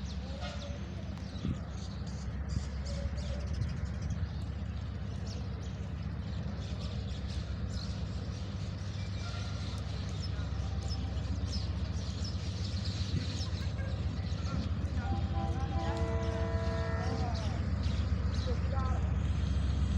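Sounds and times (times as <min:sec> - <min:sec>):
diesel locomotive rumble: 0:00.0 - 0:19.9.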